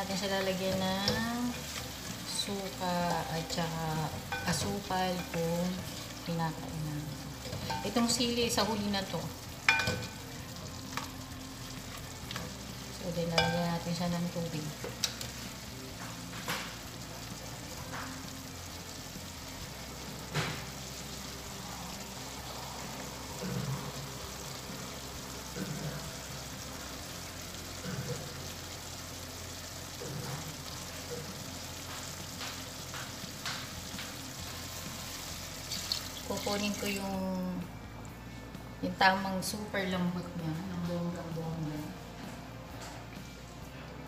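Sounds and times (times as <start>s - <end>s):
food sizzling in a pot: 0.0s - 42.3s.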